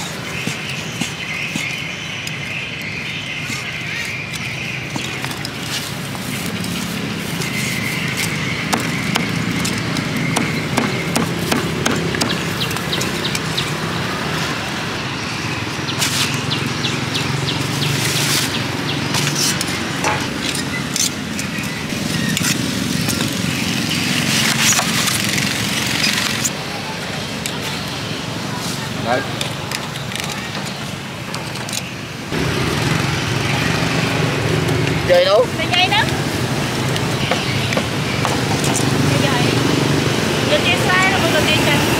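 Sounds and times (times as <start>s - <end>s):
low hum of street noise: 0.0s - 41.9s.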